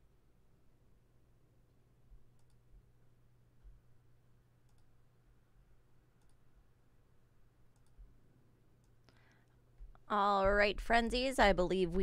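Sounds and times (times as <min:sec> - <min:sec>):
room tone hum: 0:00.0 - 0:12.0.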